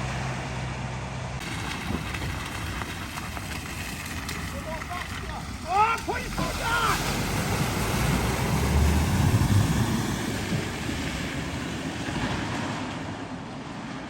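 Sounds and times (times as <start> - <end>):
car engine rumble: 0.0 - 14.0
water washing around car: 1.4 - 14.0.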